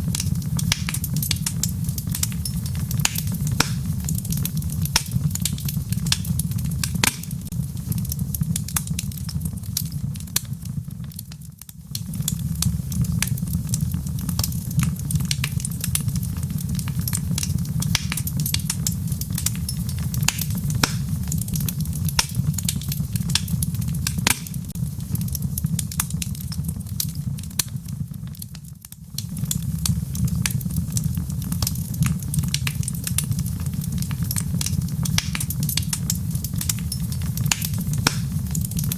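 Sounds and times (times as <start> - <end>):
flames rumbling: 0.0 - 38.9
logs crackling and popping: 0.0 - 38.9.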